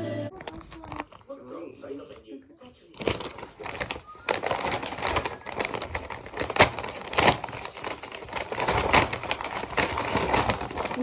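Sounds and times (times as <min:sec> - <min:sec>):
packaging crinkling and rustling: 0:00.3 - 0:11.0.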